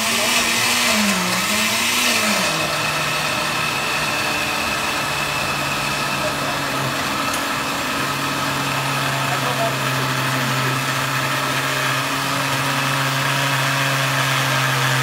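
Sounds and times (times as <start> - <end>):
blender motor running: 0.0 - 15.0.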